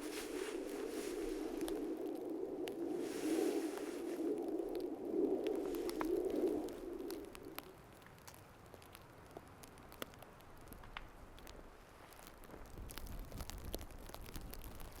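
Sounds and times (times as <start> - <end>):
small crackles and clicks: 0.0 - 15.0.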